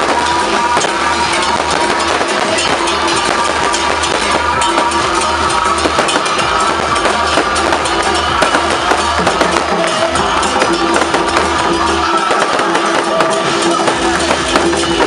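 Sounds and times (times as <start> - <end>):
drums and percussion strokes: 0.0 - 15.0.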